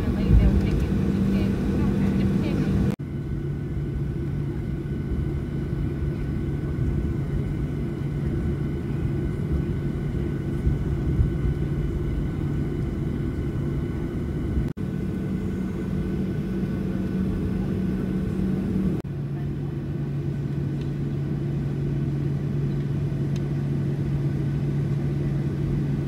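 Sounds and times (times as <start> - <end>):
jet engines rumbling in cabin: 0.0 - 26.0.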